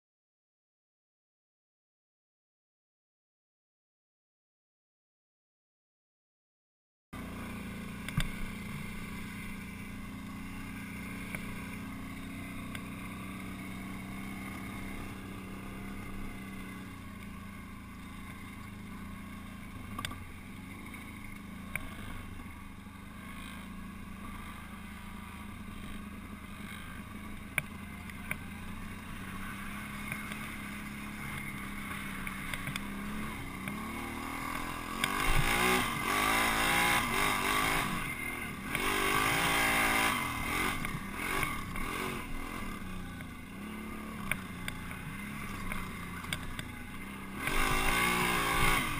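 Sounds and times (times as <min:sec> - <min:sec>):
atv engine running: 0:07.2 - 0:48.9.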